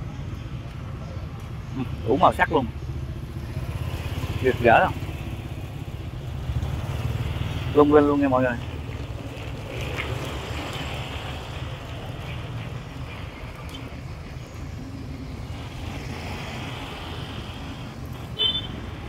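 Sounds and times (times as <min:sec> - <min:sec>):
street traffic rumble: 0:00.0 - 0:19.0
motor scooter passing: 0:02.7 - 0:19.0.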